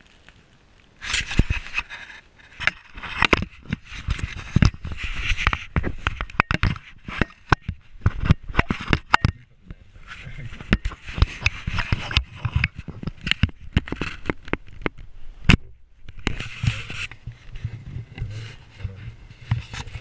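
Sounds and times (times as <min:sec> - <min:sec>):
camera handling scrapes and knocks: 0:01.0 - 0:09.4, 0:10.0 - 0:20.0.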